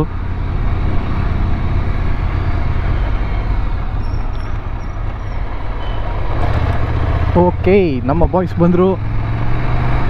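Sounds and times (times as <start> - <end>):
motorcycle engine rumbling: 0.0 - 9.9.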